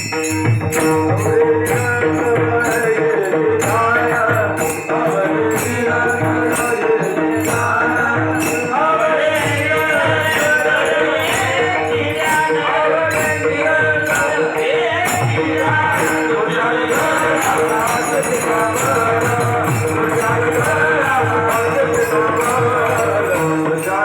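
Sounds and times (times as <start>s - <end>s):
drum beats: 0.0s - 24.0s
jingling cymbal strokes: 0.0s - 24.0s
person singing devotional song: 0.0s - 24.0s.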